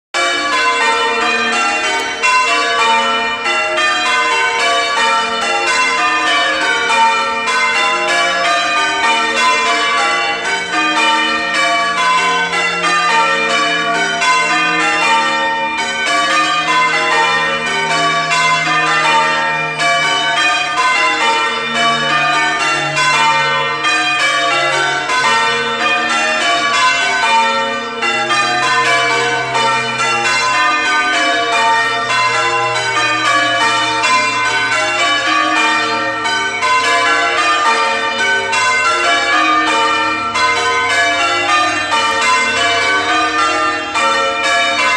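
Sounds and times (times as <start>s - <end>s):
church bells change ringing: 0.2s - 44.9s.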